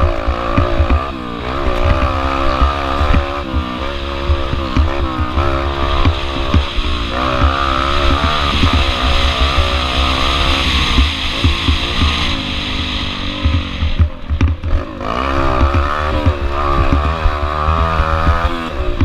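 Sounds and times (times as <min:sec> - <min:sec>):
engine knocks: 0:00.0 - 0:19.0
pit bike engine revving: 0:00.0 - 0:19.0.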